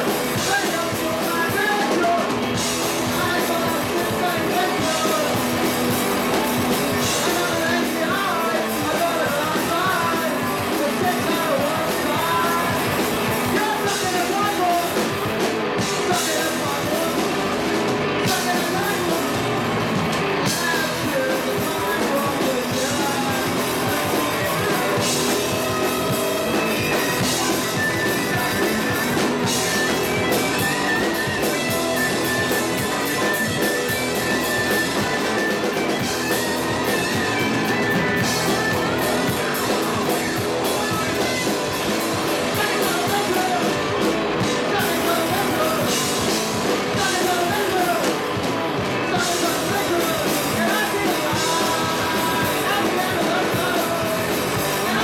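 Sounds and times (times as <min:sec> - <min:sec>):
lead vocal singing: 0:00.0 - 0:55.0
rock band playing: 0:00.0 - 0:55.0.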